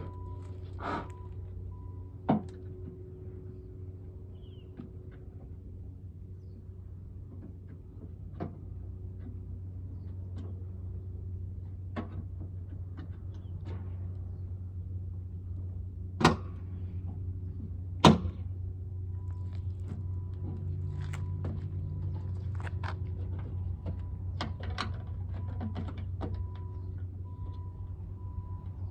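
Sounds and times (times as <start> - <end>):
steady low hum: 0.0 - 25.4.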